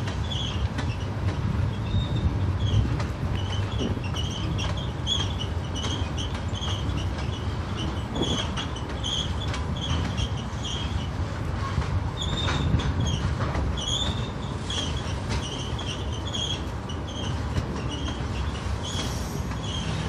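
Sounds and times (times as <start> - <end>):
freight train rumbling past: 0.0 - 20.0
train wheels squealing and clicking: 0.0 - 20.0.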